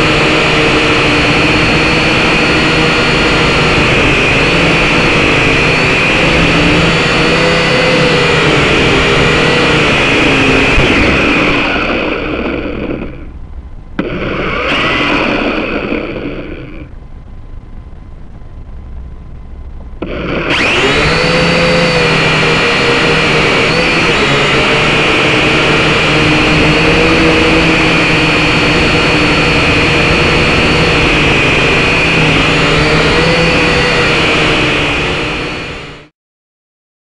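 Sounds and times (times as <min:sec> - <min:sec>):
drone motors whining: 0:00.0 - 0:36.1.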